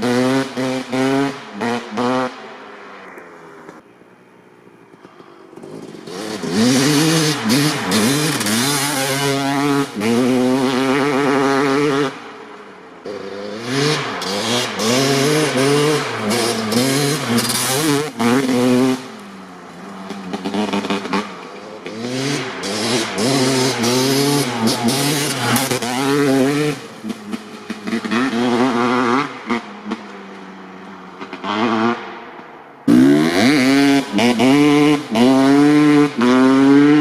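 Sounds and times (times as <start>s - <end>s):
dirt bike engine revving: 0.0s - 3.8s, 4.8s - 37.0s.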